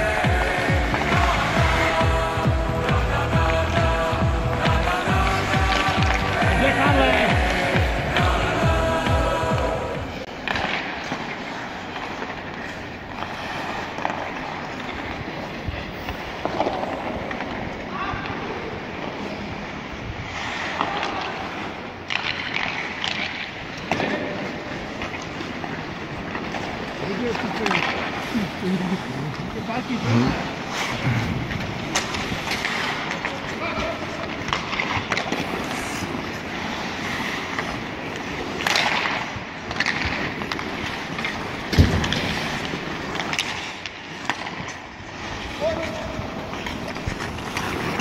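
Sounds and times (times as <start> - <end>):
hockey sticks and puck clacking: 0.0 - 19.5, 20.3 - 48.0
skates scraping on ice: 0.0 - 48.0.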